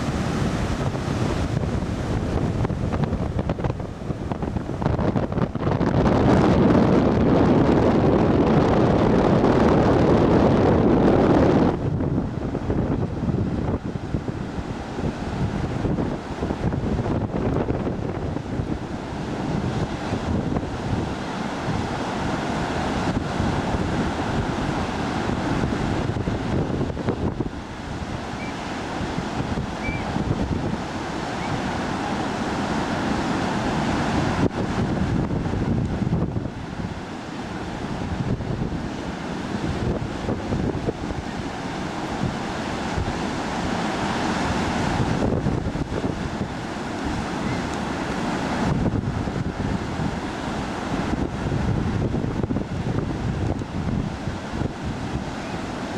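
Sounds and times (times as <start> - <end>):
gusty wind buffeting microphone: 0.0 - 55.9
surf crashing on beach: 0.0 - 55.9.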